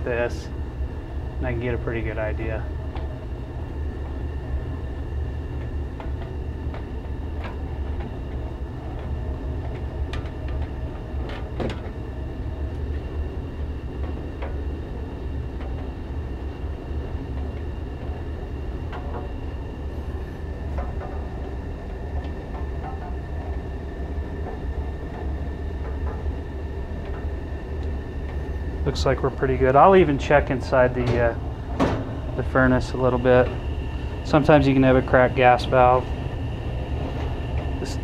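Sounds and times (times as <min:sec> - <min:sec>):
furnace blower fan rumbling: 0:00.0 - 0:38.0.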